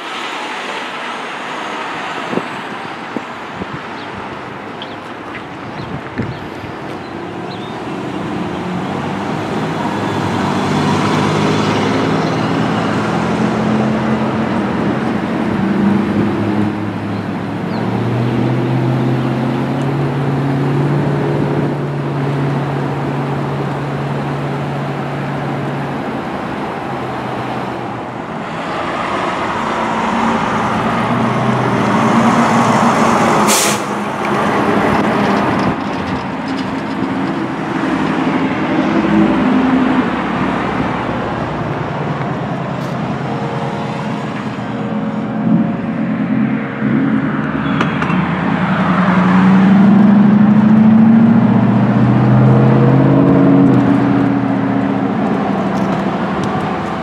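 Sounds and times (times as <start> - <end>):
tractor-trailer passing: 0.0 - 57.0
truck engine driving off: 0.0 - 57.0.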